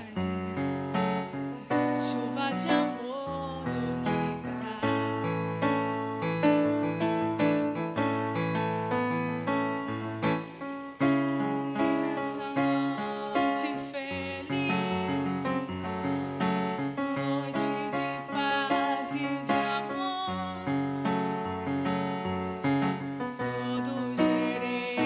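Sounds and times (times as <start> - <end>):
keyboard piano music: 0.0 - 25.0.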